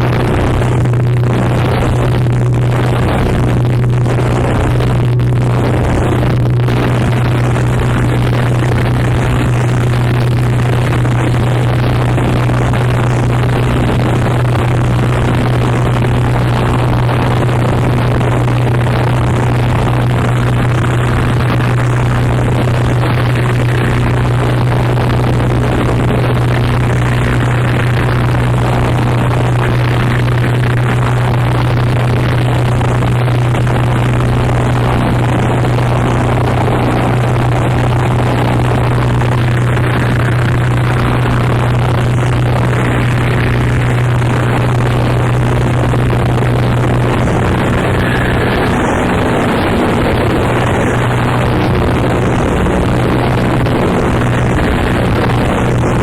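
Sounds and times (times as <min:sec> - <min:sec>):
distorted noise music: 0:00.0 - 0:56.0
loud low drone: 0:00.0 - 0:56.0.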